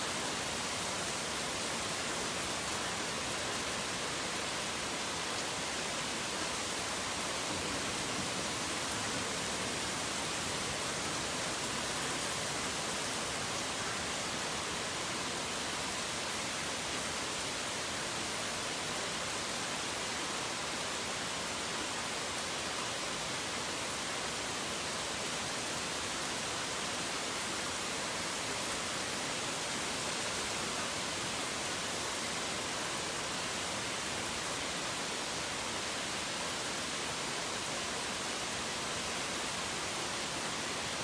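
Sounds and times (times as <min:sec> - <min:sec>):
heavy rain hissing: 0:00.0 - 0:41.0.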